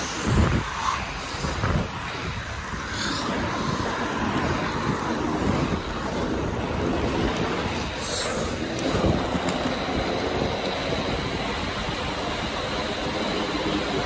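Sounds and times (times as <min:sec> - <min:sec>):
skate wheels rolling on asphalt: 0:00.0 - 0:14.0
wind noise on microphone: 0:00.0 - 0:14.0.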